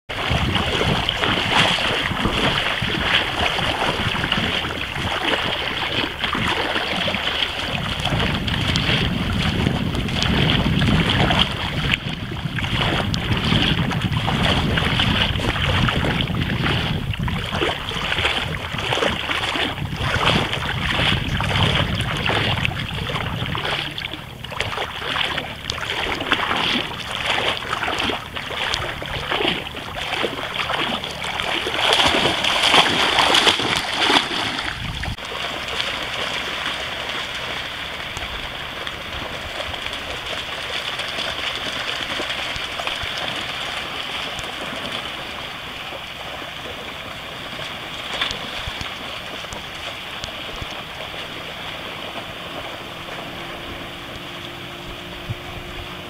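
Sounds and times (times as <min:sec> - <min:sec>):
wind: 0:00.0 - 0:56.0
dogs splashing through water: 0:00.1 - 0:56.0
water lapping: 0:00.1 - 0:56.0.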